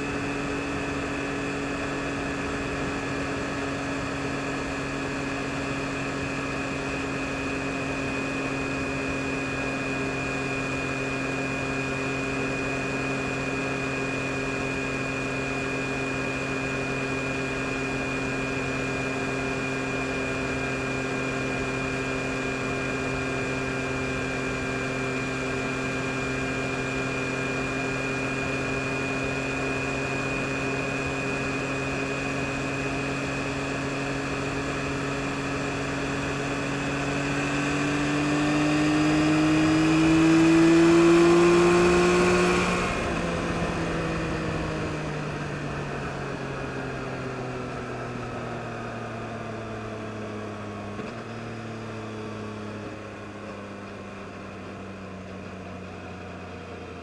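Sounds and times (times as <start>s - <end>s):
wind and road noise: 0.0s - 56.2s
motorcycle engine running: 0.0s - 57.0s.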